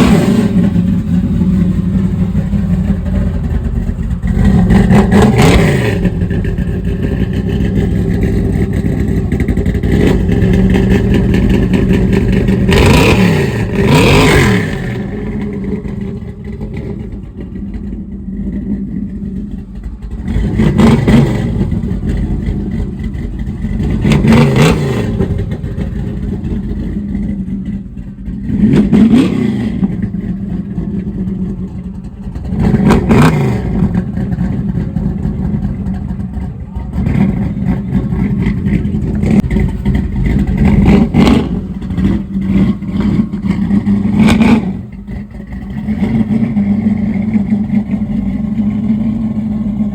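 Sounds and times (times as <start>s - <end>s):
vehicle engine revving: 0.0s - 49.9s.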